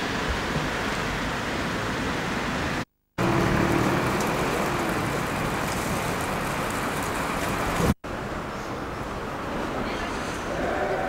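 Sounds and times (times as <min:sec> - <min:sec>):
bus engine hum: 0:00.0 - 0:10.9
traffic rushing hiss: 0:00.0 - 0:11.0.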